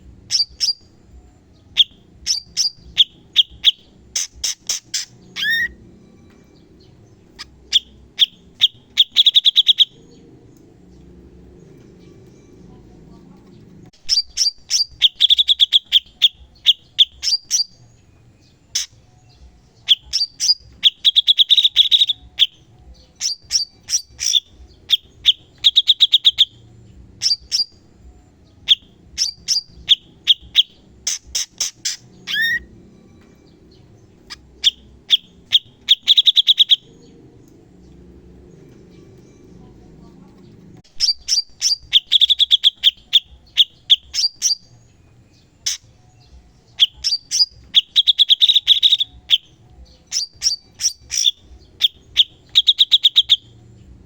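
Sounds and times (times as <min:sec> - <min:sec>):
bird singing sharp chirps and trills: 0:00.0 - 0:54.0.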